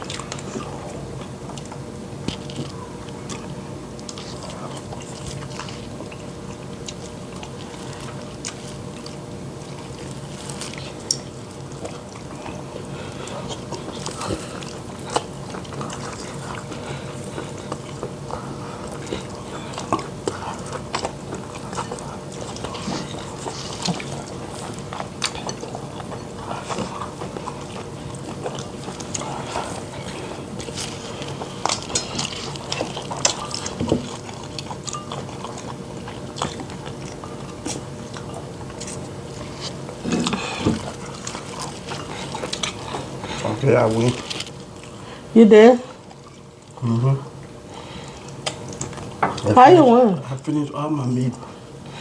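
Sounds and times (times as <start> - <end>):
people slurping and chewing: 0.0 - 45.3, 45.9 - 49.6
steady low hum: 0.0 - 52.0.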